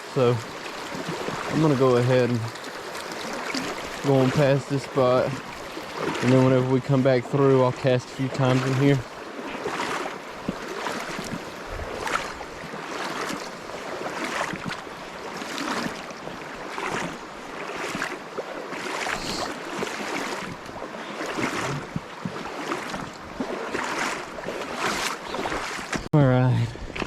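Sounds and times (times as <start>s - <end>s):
rushing river current: 0.0s - 26.0s
water sloshing from wading: 0.0s - 26.1s.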